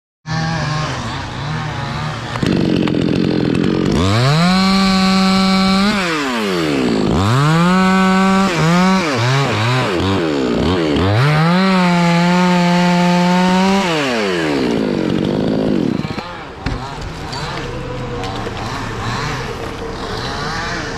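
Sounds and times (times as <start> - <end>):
chainsaw engine revving: 0.3 - 20.9.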